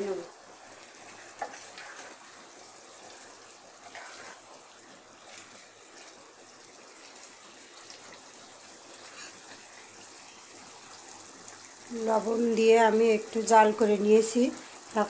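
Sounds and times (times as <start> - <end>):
curry bubbling and sizzling: 0.0 - 15.0.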